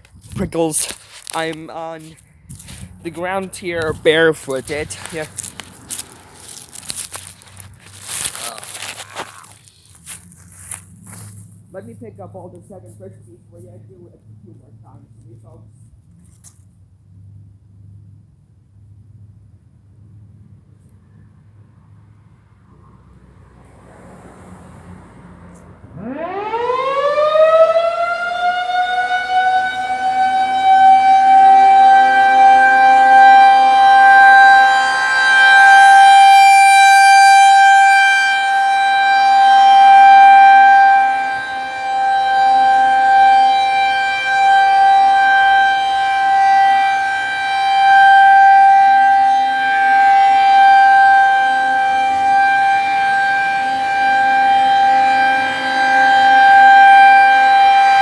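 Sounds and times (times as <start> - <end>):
tornado warning siren: 0.0 - 15.7, 21.4 - 58.0.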